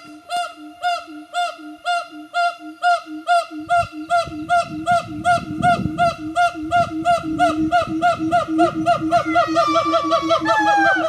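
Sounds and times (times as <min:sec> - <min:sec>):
gibbon hooting: 0:00.0 - 0:11.0.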